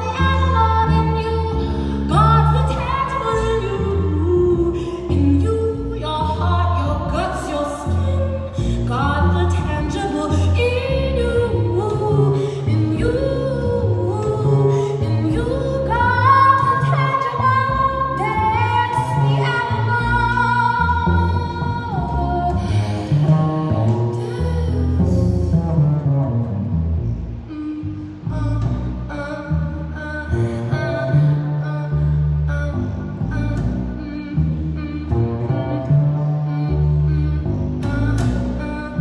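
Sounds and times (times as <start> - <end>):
woman singing: 0.0 - 25.7, 27.5 - 39.0
double bass notes: 0.0 - 39.0.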